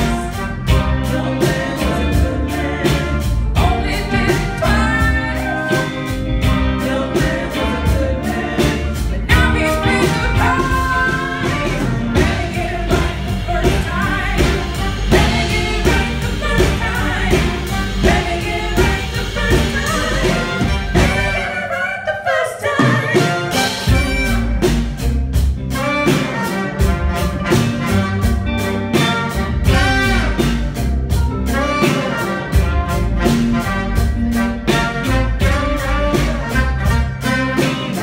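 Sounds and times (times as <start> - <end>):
steady drumbeat: 0.0 - 21.5, 22.8 - 38.0
live band music: 0.0 - 38.0.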